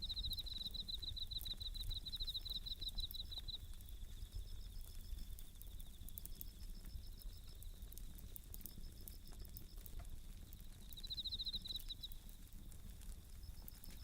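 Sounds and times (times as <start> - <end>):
campfire crackling and popping: 0.0 - 14.0
crickets trilling: 0.0 - 14.0.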